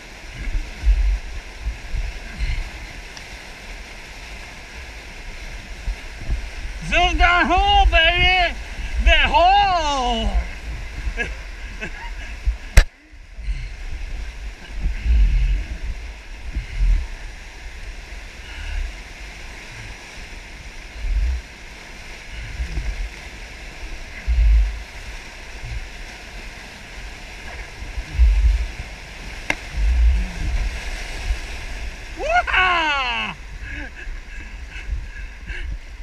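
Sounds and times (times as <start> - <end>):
whitewater rushing: 0.0 - 36.0.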